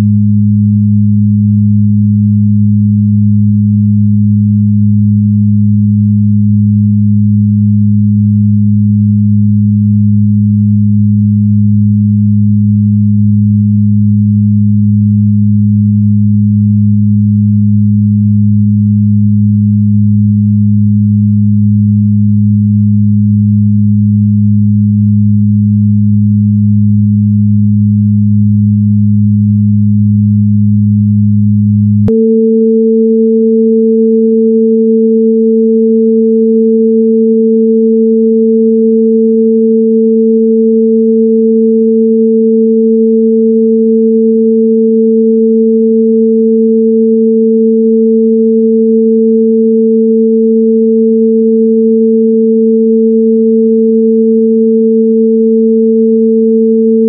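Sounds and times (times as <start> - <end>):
low electronic hum of pure tones: 0.0 - 57.0.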